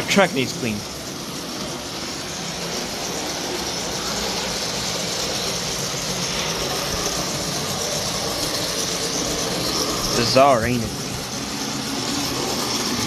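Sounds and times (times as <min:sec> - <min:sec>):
model train motor whir: 0:00.0 - 0:13.0.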